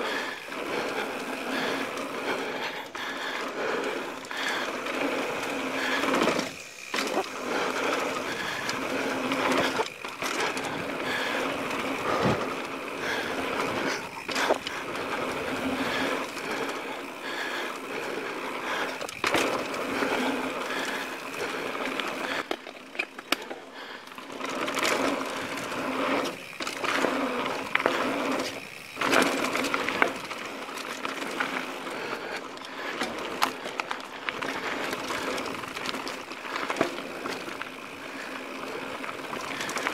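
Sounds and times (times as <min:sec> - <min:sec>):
bike rattling: 0:00.0 - 0:39.9
bike tyres rolling on dirt: 0:00.0 - 0:39.9
wheels knocking on rocks: 0:04.0 - 0:17.0, 0:18.0 - 0:39.9.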